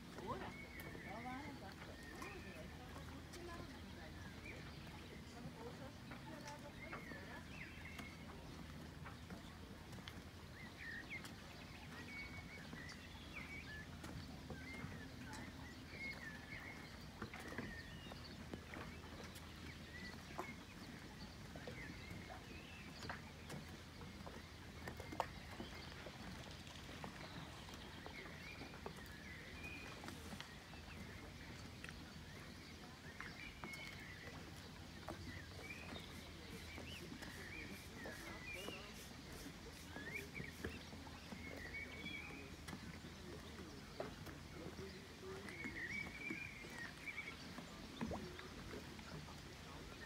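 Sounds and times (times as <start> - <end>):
faint birds chirping: 0.0 - 50.0.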